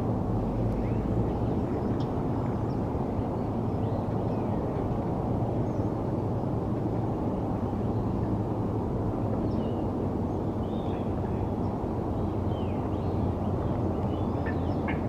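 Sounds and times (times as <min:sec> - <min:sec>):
low rumble of distant traffic: 0:00.0 - 0:15.0.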